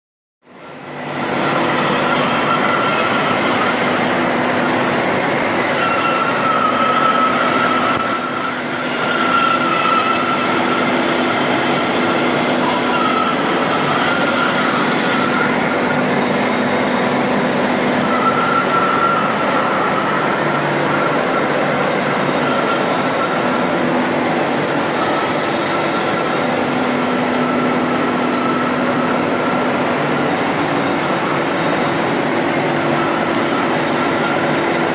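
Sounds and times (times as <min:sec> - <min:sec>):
lathe running: 0:00.7 - 0:34.9
high wavering whine: 0:01.3 - 0:34.9.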